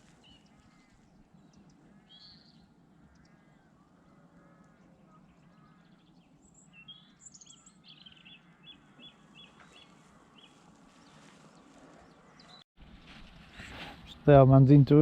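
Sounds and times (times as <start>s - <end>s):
faint birdsong: 0.0s - 12.7s.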